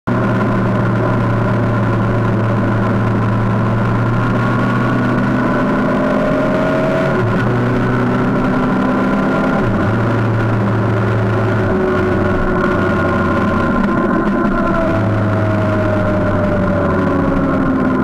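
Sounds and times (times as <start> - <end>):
motorcycle engine running: 0.1 - 18.0.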